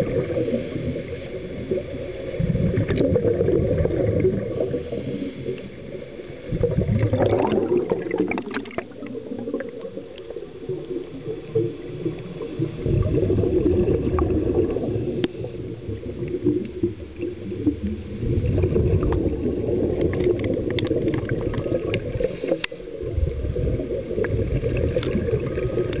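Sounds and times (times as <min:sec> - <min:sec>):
exhaled bubbles gurgling: 0:00.0 - 0:26.0
regulator hissing underwater: 0:00.0 - 0:26.0.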